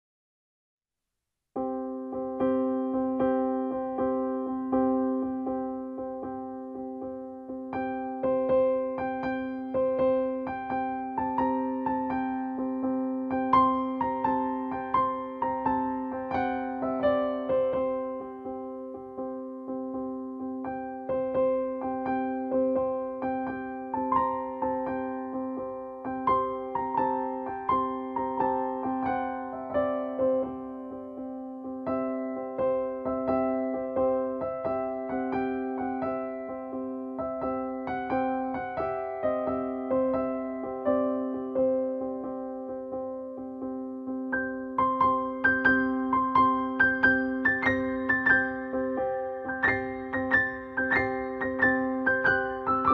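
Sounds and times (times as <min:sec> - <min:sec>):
gentle keyboard melody: 0:01.6 - 0:52.9
piano music: 0:01.6 - 0:52.9.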